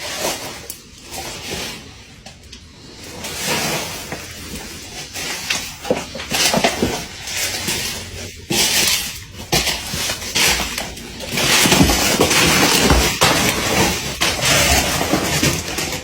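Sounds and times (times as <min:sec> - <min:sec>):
objects clattering and rustling: 0:00.0 - 0:16.0.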